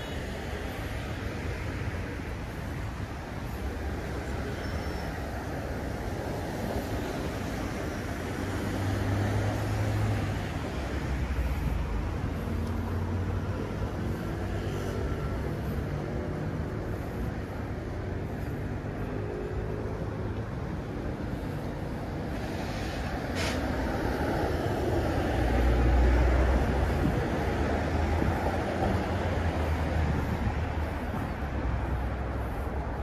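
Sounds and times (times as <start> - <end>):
rumble of passing cars: 0.0 - 33.0.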